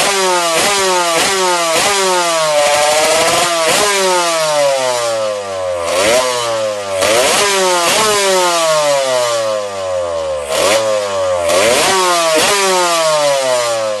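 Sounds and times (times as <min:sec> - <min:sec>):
small engine revving and winding down: 0:00.0 - 0:14.0.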